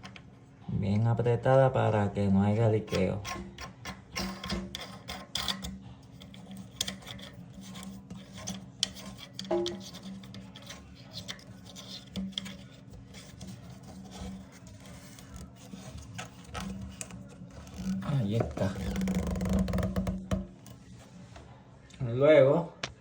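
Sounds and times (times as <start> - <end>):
plastic scraping and clicking: 2.9 - 21.5.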